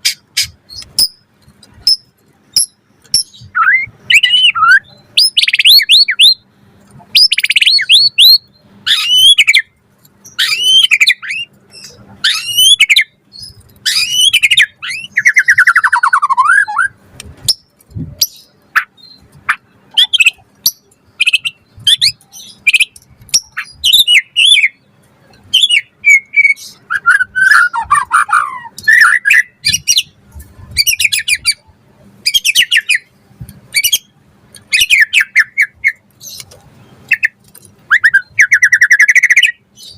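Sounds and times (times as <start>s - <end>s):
songbird singing varied phrases: 1.8s - 39.9s.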